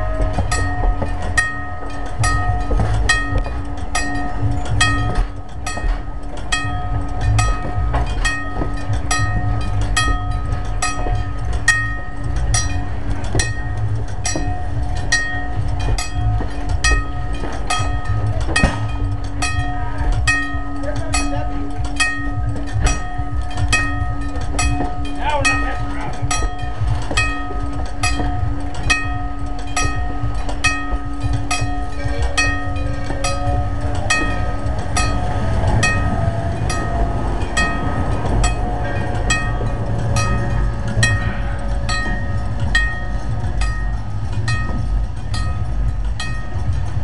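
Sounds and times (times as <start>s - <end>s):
crossing bell ringing: 0.0s - 47.0s
train wheels rumbling on rail: 0.0s - 47.0s.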